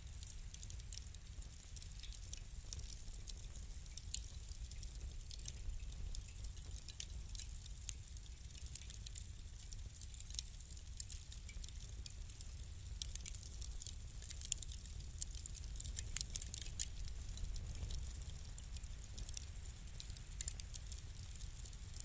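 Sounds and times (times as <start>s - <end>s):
low fire rumble: 0.0s - 22.0s
wood fire crackling: 0.0s - 22.0s.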